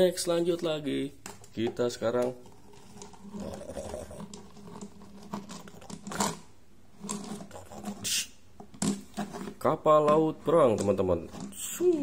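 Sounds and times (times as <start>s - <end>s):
toy scraping on tabletop: 2.1s - 12.0s.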